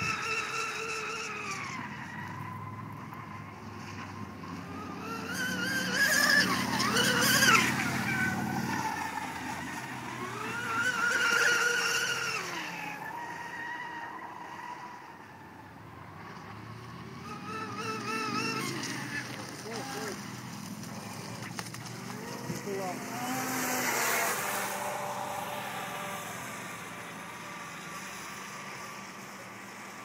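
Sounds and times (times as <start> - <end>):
rc speedboat electric whine: 0.0 - 30.0.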